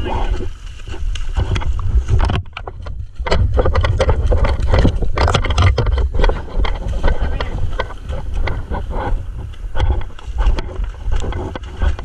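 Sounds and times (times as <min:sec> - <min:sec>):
microphone handling noise: 0:00.0 - 0:12.0
wind rumble on microphone: 0:00.0 - 0:12.0.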